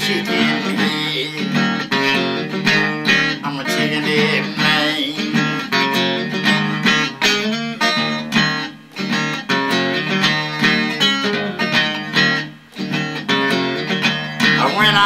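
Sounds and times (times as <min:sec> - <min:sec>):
blues guitar riff: 0:00.0 - 0:15.0.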